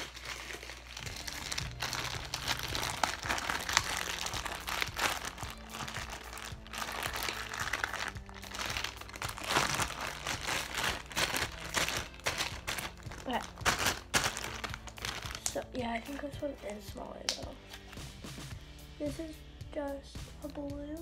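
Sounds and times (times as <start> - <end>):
slime crackling and squishing: 0.0 - 17.8.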